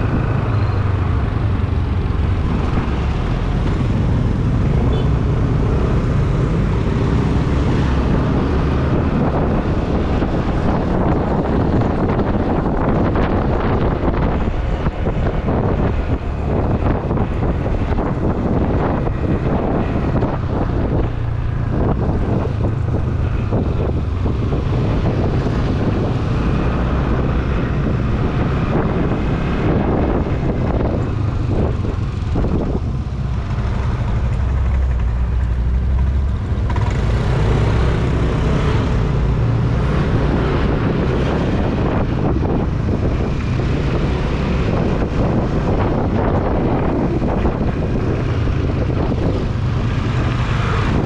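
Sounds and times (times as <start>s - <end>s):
motorcycle engine and road noise: 0.0s - 51.0s
wind rumble on microphone: 0.0s - 51.0s.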